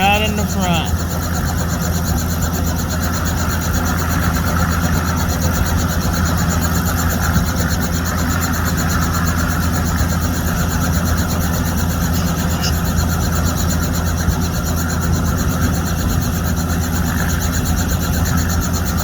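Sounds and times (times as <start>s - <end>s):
helicopter pulsing drone: 0.0s - 19.0s.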